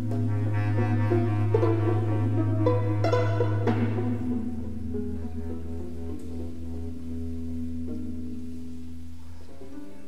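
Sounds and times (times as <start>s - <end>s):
steady low drone: 0.0s - 9.7s
improvised instrumental ensemble: 0.0s - 10.0s.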